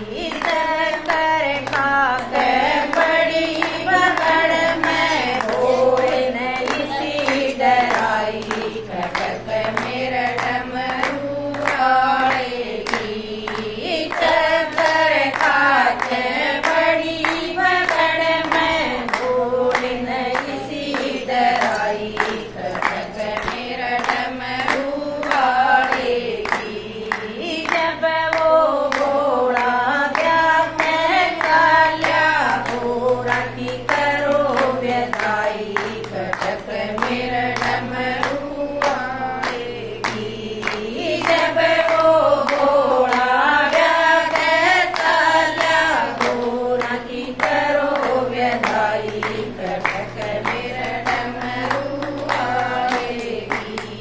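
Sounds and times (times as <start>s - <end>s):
rhythmic hand claps: 0.0s - 54.0s
women singing together: 0.0s - 54.0s.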